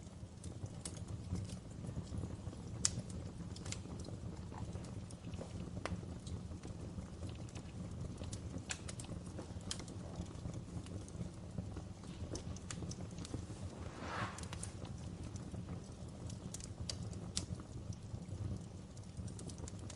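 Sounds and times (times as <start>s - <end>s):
fire crackling and popping: 0.0s - 19.9s
low rumble of flames: 0.0s - 19.9s.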